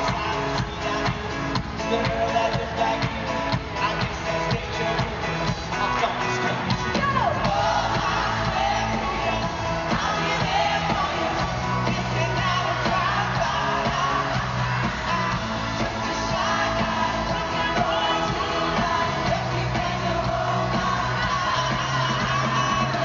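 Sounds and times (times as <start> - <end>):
crowd cheering: 0.0 - 23.0
live pop-rock song with vocals: 0.0 - 23.0.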